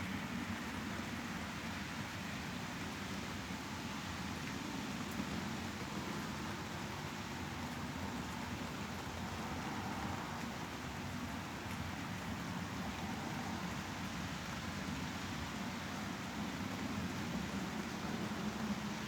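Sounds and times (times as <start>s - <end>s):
steady white noise hiss: 0.0s - 19.0s.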